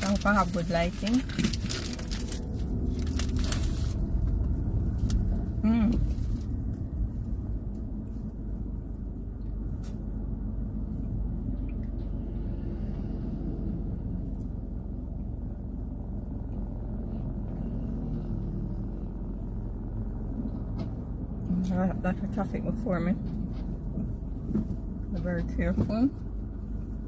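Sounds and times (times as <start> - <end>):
car cabin rumble: 0.0 - 12.2, 14.0 - 27.0.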